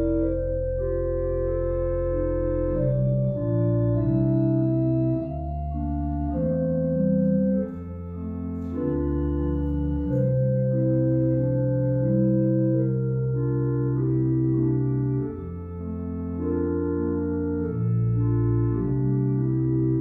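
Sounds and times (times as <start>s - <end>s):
church organ playing slow chords: 0.0s - 20.0s.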